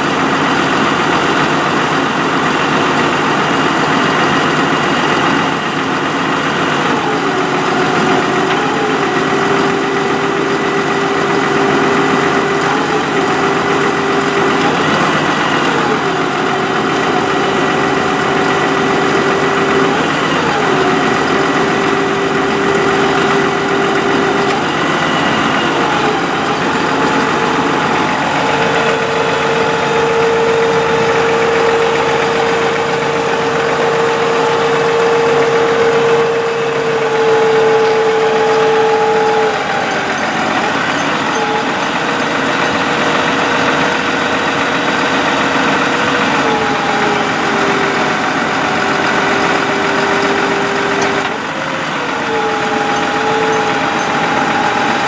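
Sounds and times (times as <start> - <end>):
diesel truck engine running: 0.0 - 55.0
hydraulic whine: 0.0 - 55.0.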